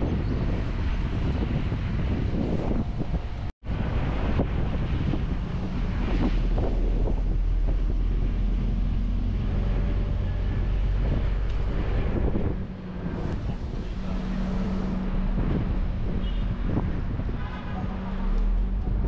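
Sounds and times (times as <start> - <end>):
low engine drone: 0.0 - 19.0
wind buffeting microphone: 0.0 - 19.0.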